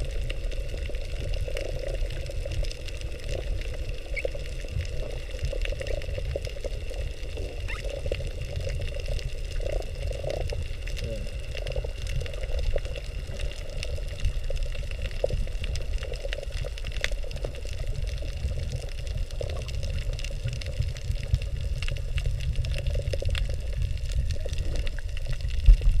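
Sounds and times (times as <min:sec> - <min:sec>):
sharp clicks and crackles: 0:00.0 - 0:26.0
underwater rumble of moving water: 0:00.0 - 0:26.0.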